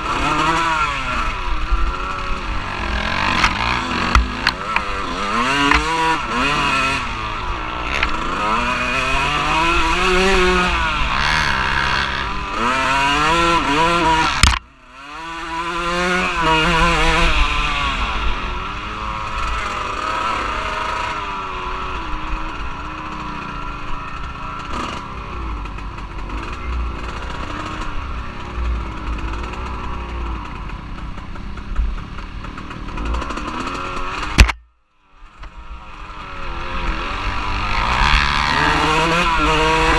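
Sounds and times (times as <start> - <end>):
off-road vehicle engine revving: 0.0 - 34.6, 35.4 - 39.9.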